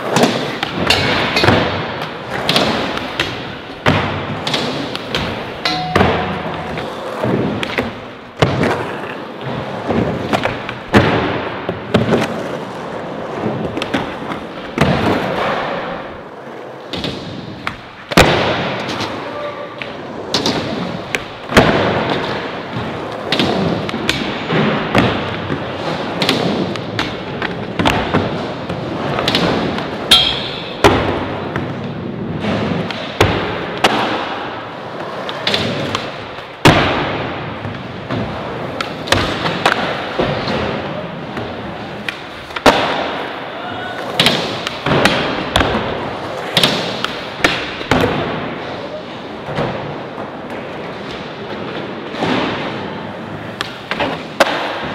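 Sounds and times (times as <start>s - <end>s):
skateboards clacking and landing: 0.0s - 54.9s
skateboards rolling: 0.0s - 54.9s.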